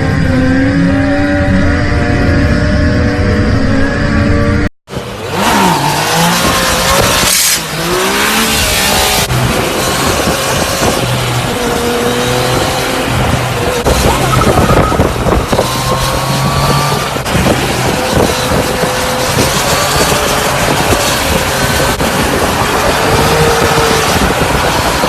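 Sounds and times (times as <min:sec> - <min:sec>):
motor vehicle engine running: 0:00.0 - 0:25.0.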